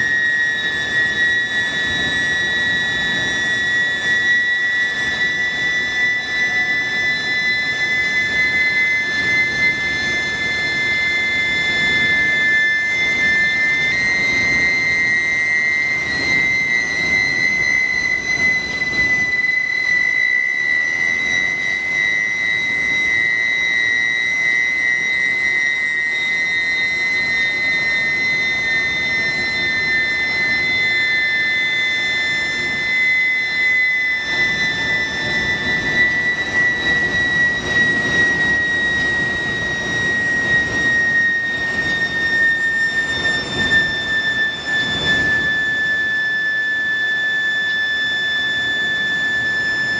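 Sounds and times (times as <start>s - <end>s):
high-pitched furnace whine: 0.0s - 49.9s.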